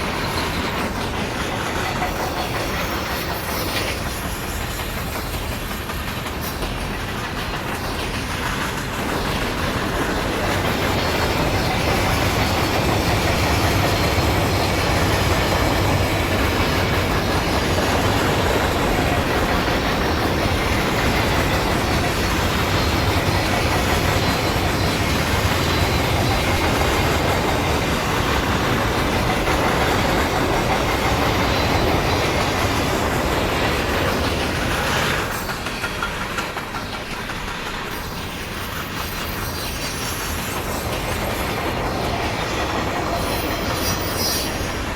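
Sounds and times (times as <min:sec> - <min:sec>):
freight train rolling past: 0:00.0 - 0:44.9
wheels clattering on rails: 0:00.0 - 0:44.9.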